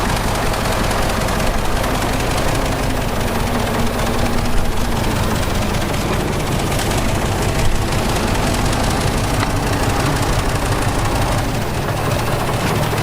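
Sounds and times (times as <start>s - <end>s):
heavy diesel engine clattering: 0.0s - 13.0s.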